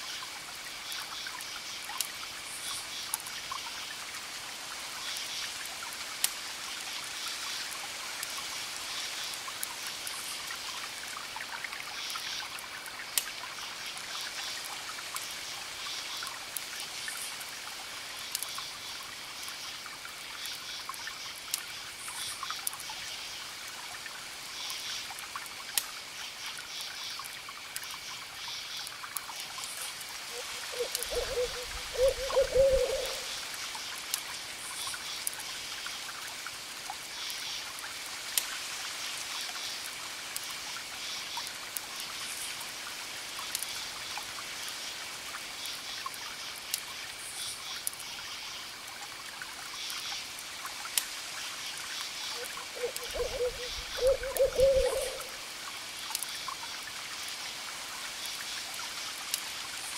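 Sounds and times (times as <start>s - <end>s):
trickling water hiss: 0.0s - 59.9s.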